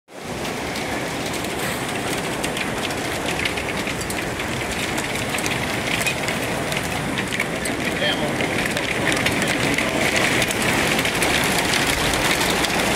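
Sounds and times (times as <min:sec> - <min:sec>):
hail and heavy rain roaring: 0:00.1 - 0:12.9
hailstones ticking on hard surfaces: 0:00.1 - 0:12.9.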